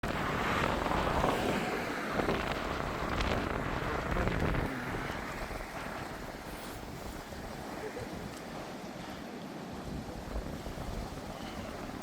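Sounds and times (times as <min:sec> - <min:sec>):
sea waves washing in: 0:00.0 - 0:12.0
wind buffeting microphone: 0:00.0 - 0:12.0.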